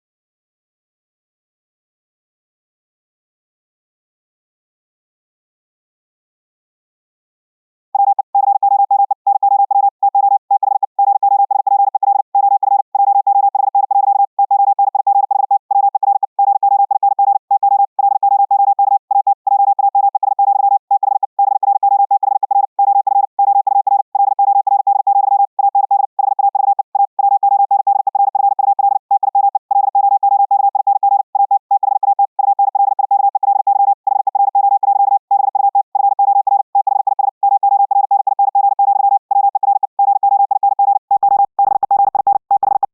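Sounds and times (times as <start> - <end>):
morse code tone: 8.0 - 42.9.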